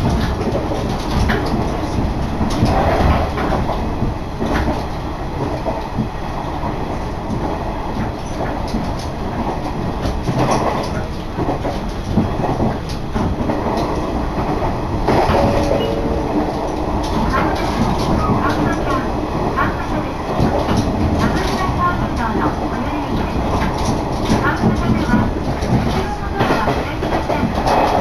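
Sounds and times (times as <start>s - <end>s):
wheels clicking over rail joints: 0.0s - 28.0s
wheels rumbling on rails: 0.0s - 28.0s.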